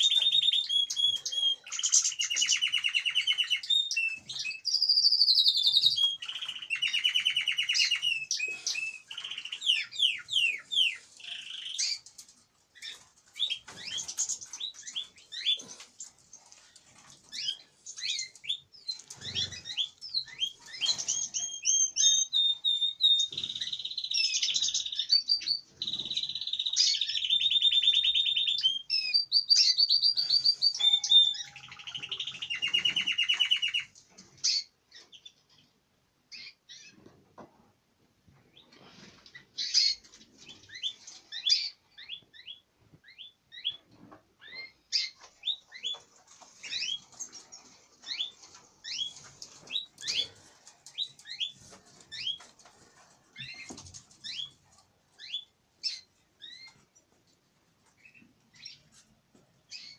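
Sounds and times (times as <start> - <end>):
canaries singing: 0.0 - 37.4, 38.3 - 59.9.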